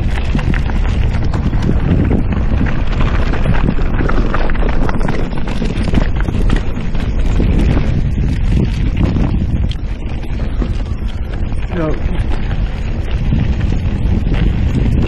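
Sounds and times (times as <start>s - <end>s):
bike clattering over rocks: 0.0s - 13.2s
wind rumbling on microphone: 0.0s - 15.0s.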